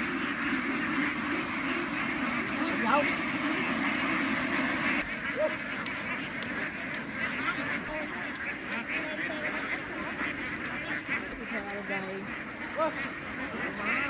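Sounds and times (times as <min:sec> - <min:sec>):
flock of ducks quacking: 0:00.0 - 0:14.0.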